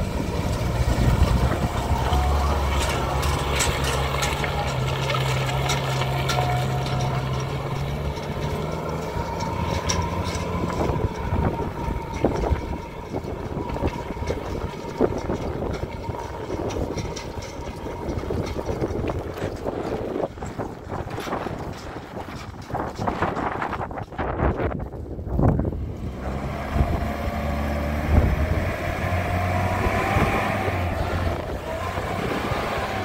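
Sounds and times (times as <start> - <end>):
pickup truck engine running: 0.0 - 33.0
rough noisy background: 0.0 - 33.0.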